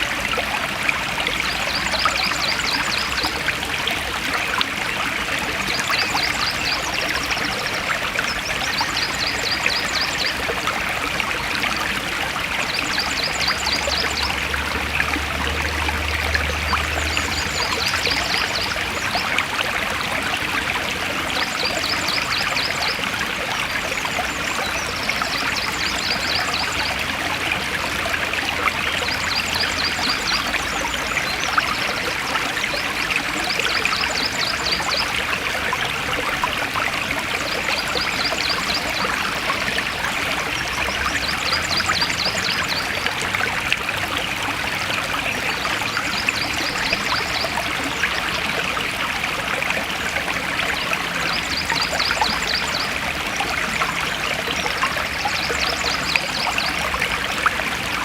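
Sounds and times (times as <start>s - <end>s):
forest stream flowing: 0.0s - 58.0s.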